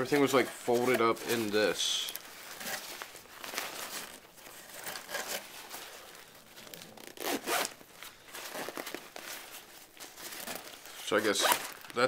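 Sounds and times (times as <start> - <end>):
fabric bag rustling and crinkling: 0.0 - 12.0.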